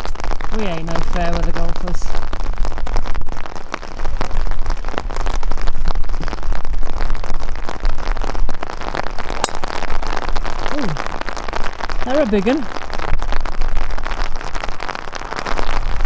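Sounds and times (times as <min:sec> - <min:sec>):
rain drops spattering: 0:00.0 - 0:16.0.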